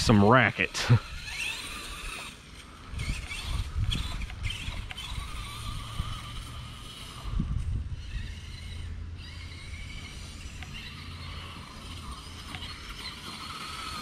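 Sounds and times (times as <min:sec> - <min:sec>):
electric motor whine: 0:00.0 - 0:14.0
gears rattling: 0:00.0 - 0:14.0
steady low hum: 0:00.0 - 0:14.0.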